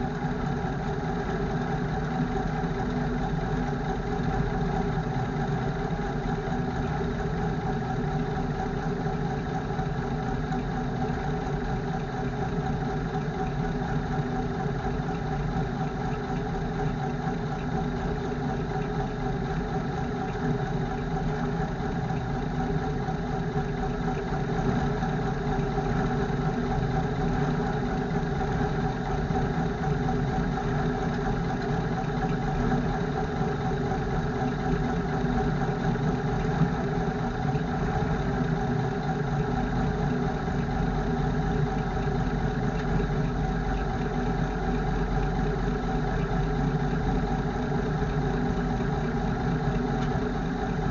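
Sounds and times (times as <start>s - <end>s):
truck engine idling: 0.1s - 50.9s.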